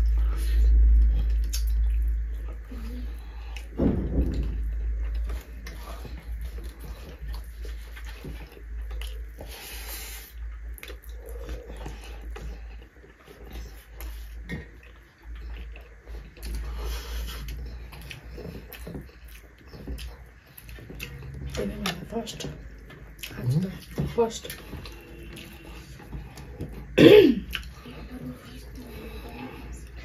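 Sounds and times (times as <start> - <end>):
chewing and mouth smacks: 0.0 - 30.0
low steady hum: 0.0 - 30.0.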